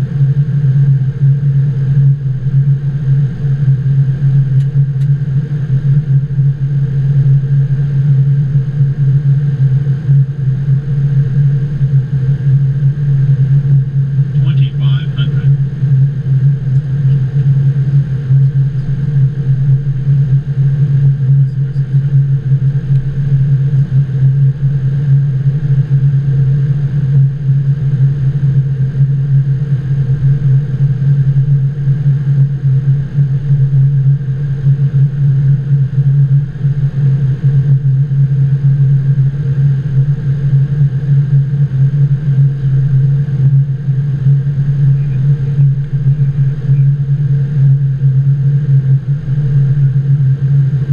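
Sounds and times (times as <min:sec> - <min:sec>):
faint steady tones: 0:00.0 - 0:50.9
loud low cockpit hum: 0:00.0 - 0:50.9.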